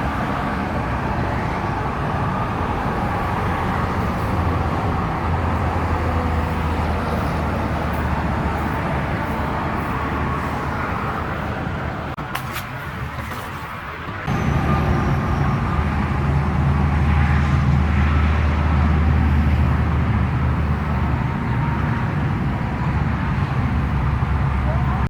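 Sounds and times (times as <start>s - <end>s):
freeway traffic: 0.0s - 25.0s.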